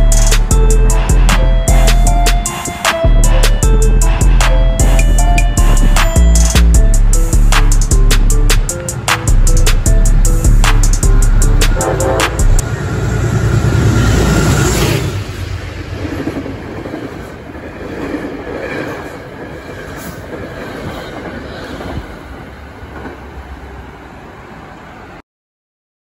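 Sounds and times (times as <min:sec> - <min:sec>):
train wheels rushing and rumbling: 0:00.0 - 0:25.2.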